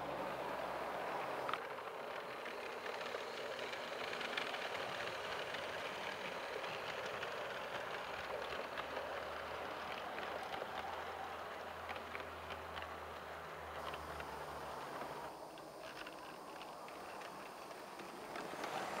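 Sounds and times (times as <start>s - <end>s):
model train wheels rattling: 1.0s - 19.0s
faint ticks: 1.4s - 19.0s.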